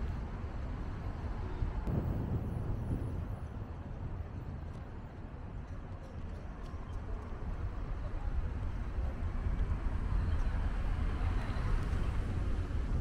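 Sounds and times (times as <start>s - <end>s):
road and wind noise in car: 0.0s - 13.0s.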